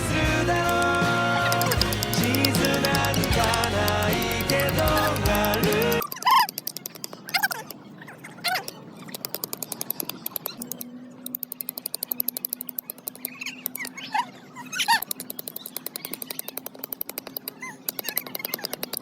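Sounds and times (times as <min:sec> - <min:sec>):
fast even clicking: 0:00.0 - 0:07.8, 0:08.5 - 0:19.0
birds chirping: 0:00.0 - 0:19.0.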